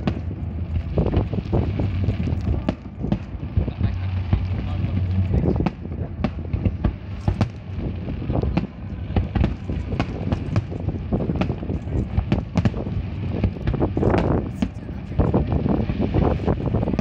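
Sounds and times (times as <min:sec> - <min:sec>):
fireworks bangs: 0:00.0 - 0:17.0
low rumble: 0:00.0 - 0:17.0.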